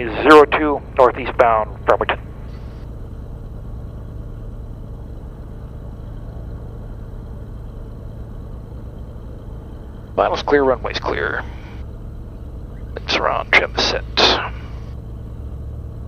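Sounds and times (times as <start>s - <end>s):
airplane piston engine humming: 0.0s - 16.0s.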